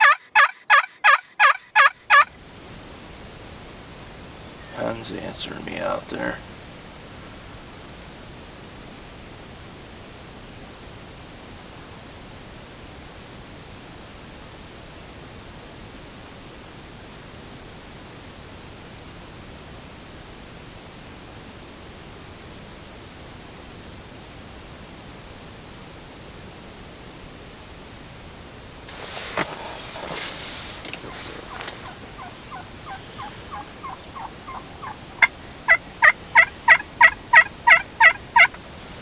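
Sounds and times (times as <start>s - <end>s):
steady hiss: 2.0s - 39.0s.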